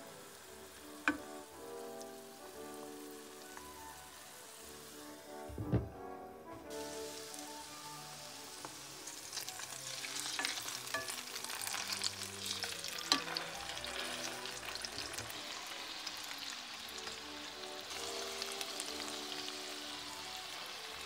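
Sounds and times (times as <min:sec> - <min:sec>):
food sizzling in a frying pan: 0:00.0 - 0:05.5, 0:06.6 - 0:21.0.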